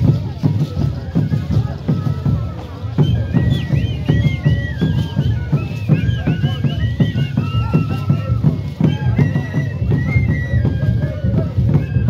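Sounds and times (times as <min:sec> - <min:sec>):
high piping flute melody: 0:00.0 - 0:12.0
steady drum beats: 0:00.0 - 0:12.0.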